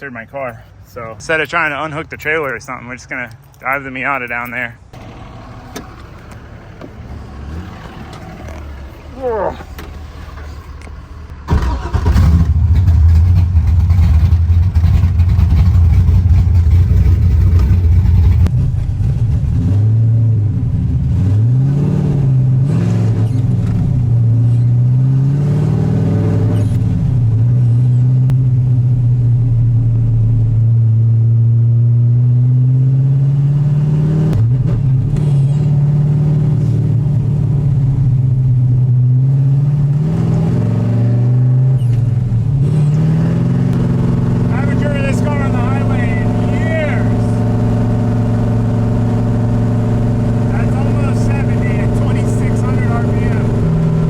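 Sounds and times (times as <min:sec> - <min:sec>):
car engine droning and revving: 0:04.9 - 0:54.0.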